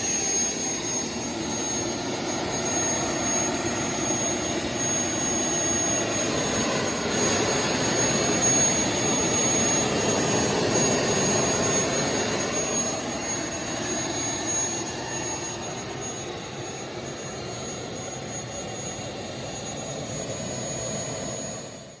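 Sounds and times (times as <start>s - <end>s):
gas turbine engine roaring: 0.0s - 21.9s
high-pitched turbine whine: 0.0s - 22.0s.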